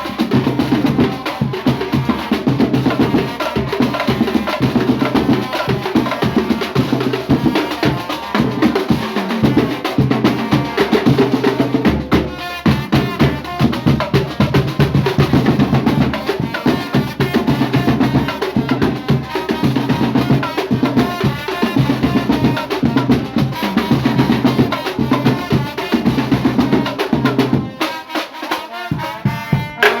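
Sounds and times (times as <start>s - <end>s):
music with drum beat and heavy bass: 0.0s - 30.0s.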